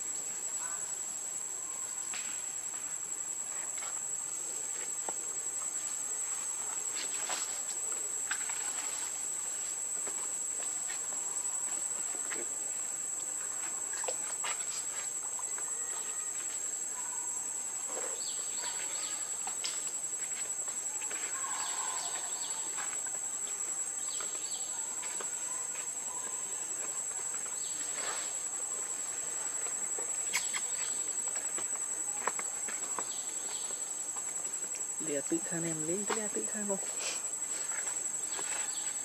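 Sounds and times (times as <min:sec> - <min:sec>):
insect drone: 0:00.0 - 0:39.0.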